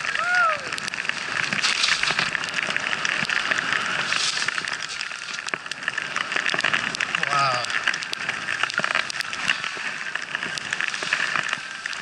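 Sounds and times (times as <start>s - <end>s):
skis hissing through powder snow: 0.0s - 12.0s.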